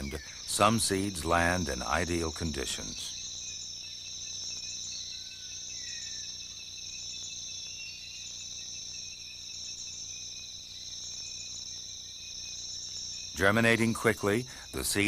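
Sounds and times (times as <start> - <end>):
faint chirps: 0.0 - 15.0
insects shrilling: 0.0 - 15.0.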